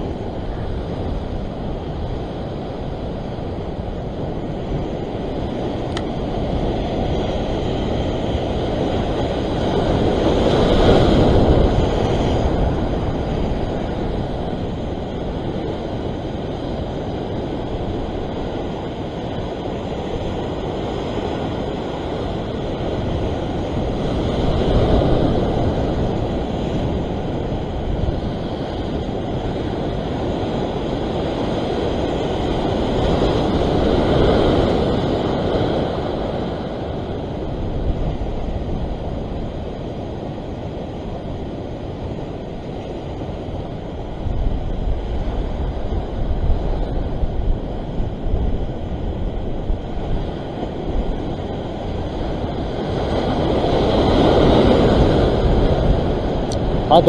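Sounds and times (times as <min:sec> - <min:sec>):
ocean surf breaking over rocks: 0:00.0 - 0:57.0
wind rumbling on microphone: 0:00.0 - 0:57.0.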